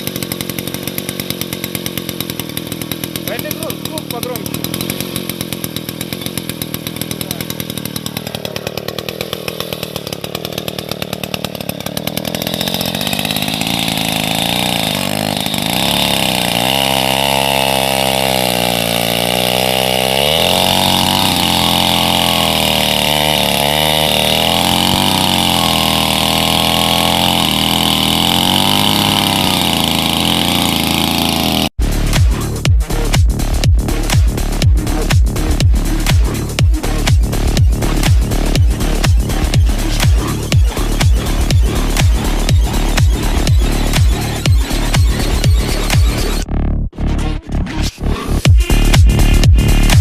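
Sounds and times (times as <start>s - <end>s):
old engines running: 0.0s - 46.5s.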